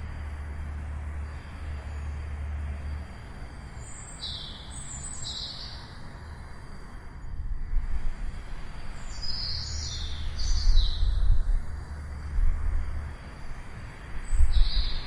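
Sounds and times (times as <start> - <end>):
outdoor background hush: 0.0 - 15.0.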